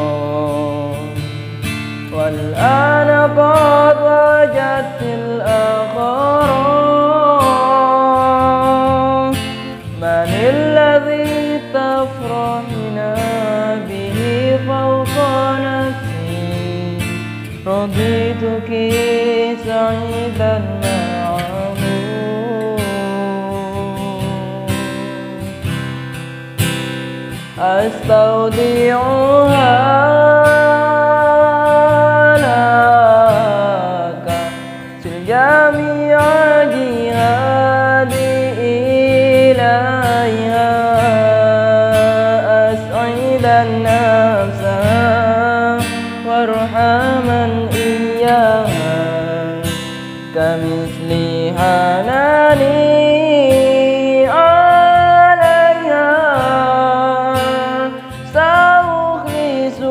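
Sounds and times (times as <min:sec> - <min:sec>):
man singing slow song: 0:00.0 - 0:26.3, 0:27.2 - 0:59.9
acoustic guitar: 0:00.0 - 0:59.9.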